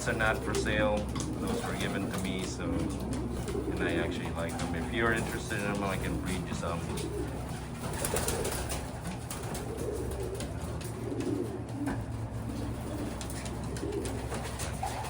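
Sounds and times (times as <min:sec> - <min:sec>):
pigeons cooing: 0:00.0 - 0:15.0
steady low hum: 0:00.0 - 0:15.0.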